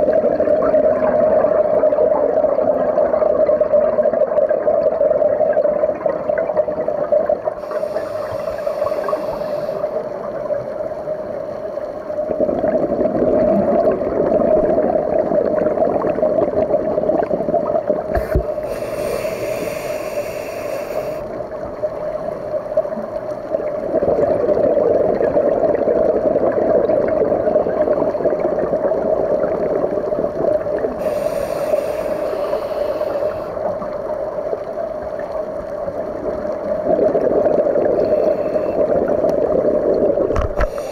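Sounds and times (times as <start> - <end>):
exhaled regulator bubbles: 0.0 - 40.9
steady underwater hum: 0.0 - 40.9.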